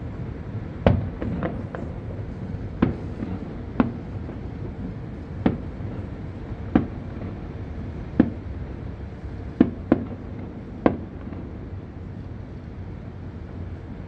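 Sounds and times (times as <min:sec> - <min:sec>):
distant fireworks bursting: 0:00.0 - 0:14.0
low background rumble: 0:00.0 - 0:14.0.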